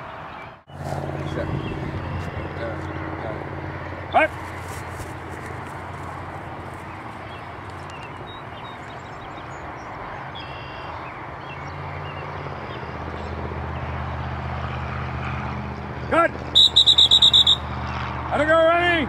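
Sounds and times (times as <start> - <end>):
rushing outdoor noise: 0.0 - 19.0
vehicle engine hum: 0.0 - 19.0.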